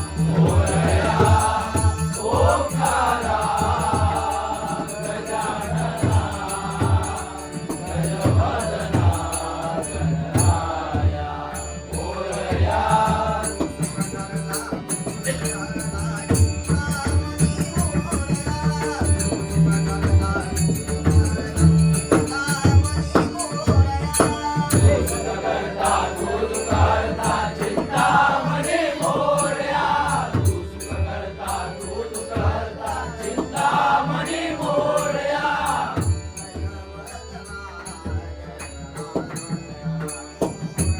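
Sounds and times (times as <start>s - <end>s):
voices singing a chant: 0.0s - 40.9s.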